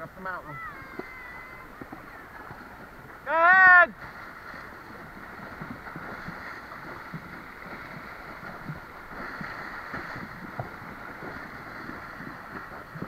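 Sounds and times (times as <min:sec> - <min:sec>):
river water running: 0:00.0 - 0:13.0
small splashes and ticks: 0:00.8 - 0:03.2, 0:04.0 - 0:13.0.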